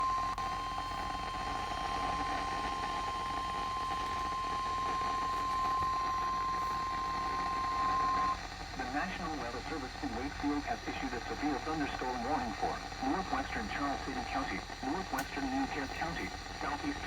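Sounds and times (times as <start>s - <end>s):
steady alarm tone: 0.0s - 15.0s
radio hiss: 0.0s - 17.0s.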